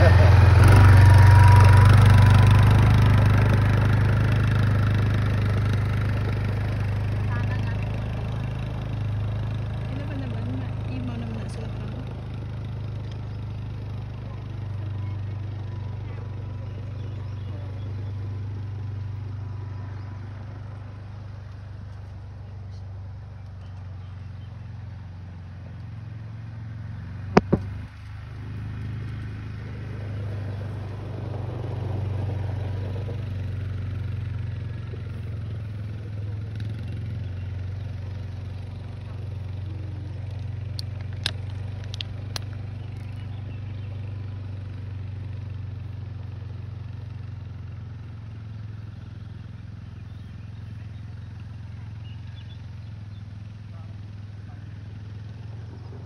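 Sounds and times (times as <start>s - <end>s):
distant atv engine drone: 0.0s - 56.0s.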